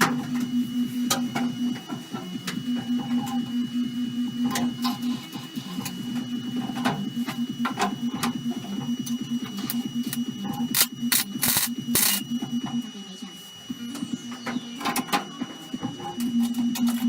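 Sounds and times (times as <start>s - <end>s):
power tool pulsing hum: 0.0s - 17.0s.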